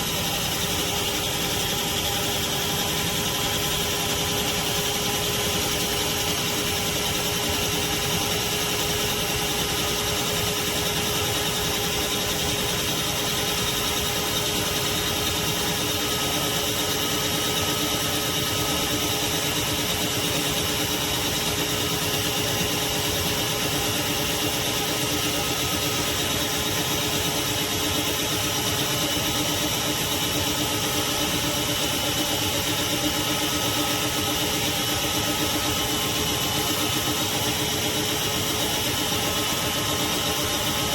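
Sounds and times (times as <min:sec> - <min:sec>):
shop vacuum running: 0:00.0 - 0:40.9.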